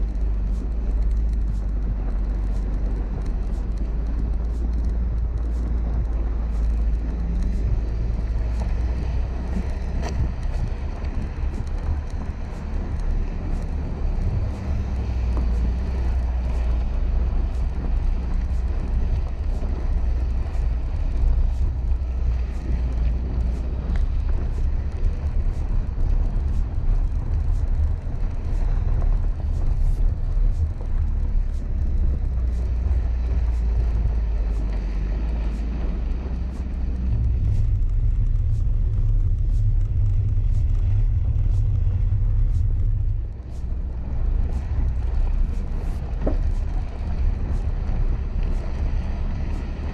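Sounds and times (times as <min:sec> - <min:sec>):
car engine running under load: 0:00.0 - 0:49.9.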